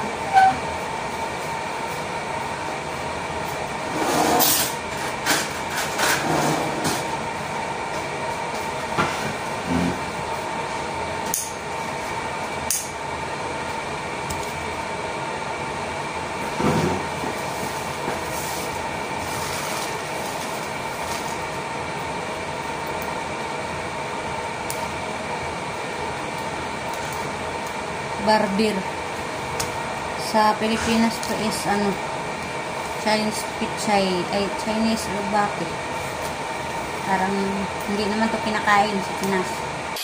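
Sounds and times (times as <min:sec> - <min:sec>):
machine hum with whine: 0:00.0 - 0:40.0.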